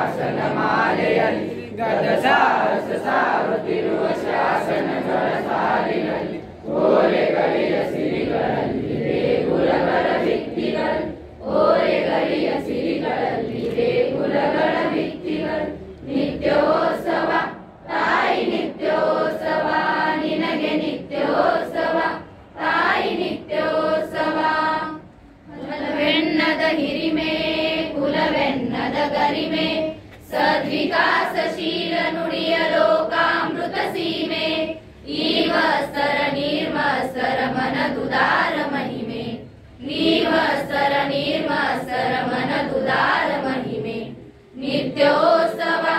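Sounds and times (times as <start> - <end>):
children singing together: 0.0 - 45.9.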